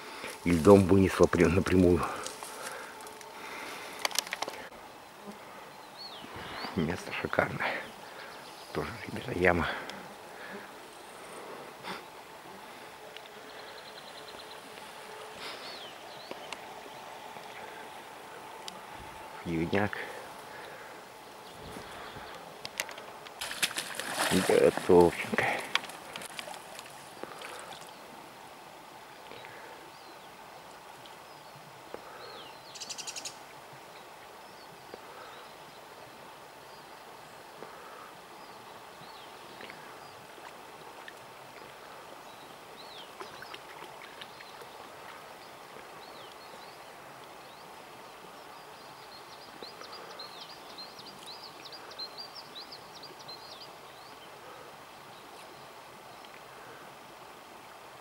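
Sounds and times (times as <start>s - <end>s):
birds chirping: 0.0s - 28.2s, 31.0s - 56.8s
flowing river water: 0.0s - 32.7s, 33.4s - 58.0s.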